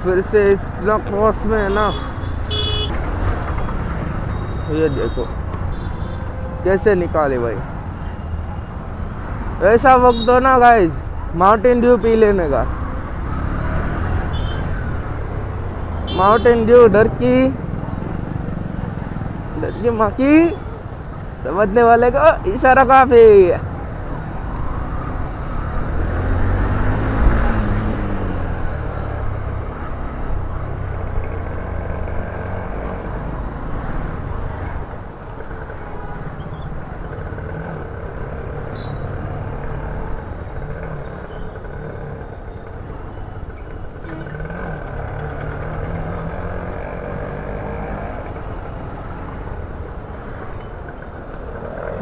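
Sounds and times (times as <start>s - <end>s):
motorcycle engine: 0.0s - 10.4s, 11.0s - 21.5s, 23.6s - 52.0s.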